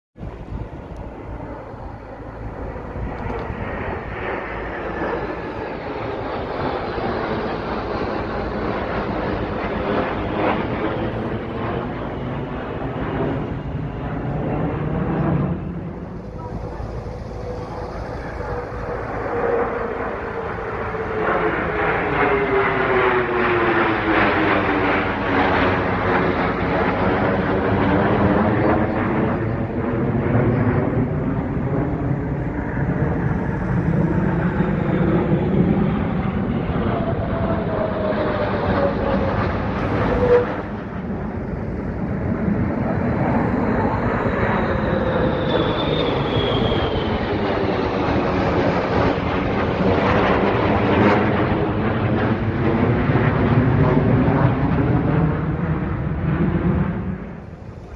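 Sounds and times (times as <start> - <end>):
jet engines overhead: 0.2 - 57.9.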